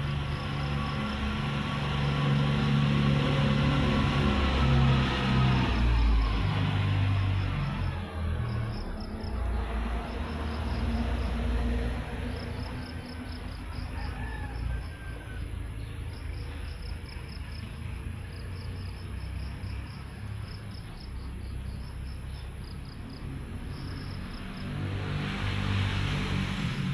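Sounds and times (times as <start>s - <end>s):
cricket chirping: 0.0s - 26.9s.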